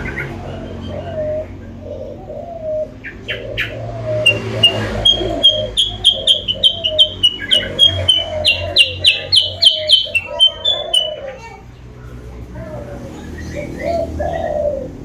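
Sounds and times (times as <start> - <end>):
low cooing: 0.0 - 15.0.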